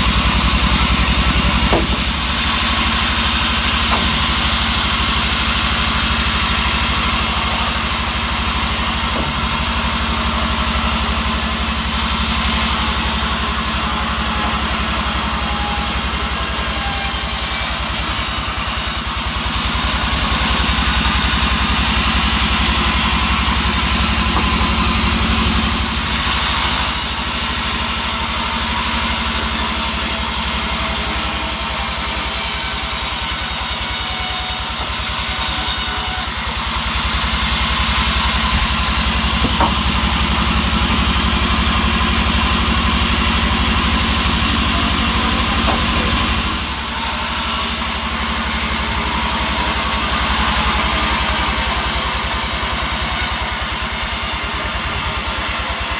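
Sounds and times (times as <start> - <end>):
saw rasping through log: 0.0 - 55.9
sawmill engine running: 0.0 - 55.9.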